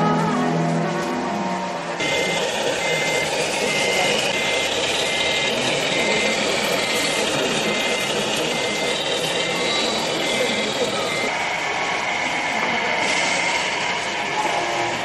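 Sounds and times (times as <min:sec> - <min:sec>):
steady background din: 0:00.0 - 0:15.0
reversing beeper: 0:01.2 - 0:15.0.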